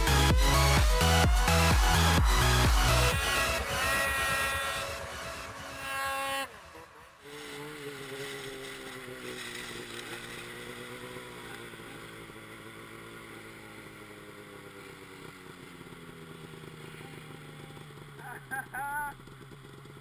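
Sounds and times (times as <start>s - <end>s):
snowmobile engine droning: 0.0s - 20.0s.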